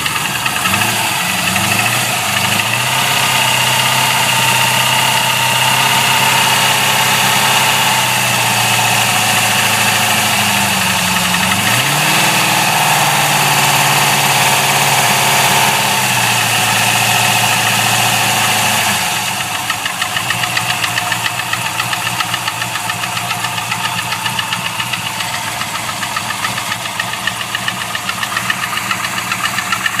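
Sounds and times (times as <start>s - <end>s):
car engine idling: 0.0s - 30.0s
rapid engine knocking: 0.0s - 30.0s.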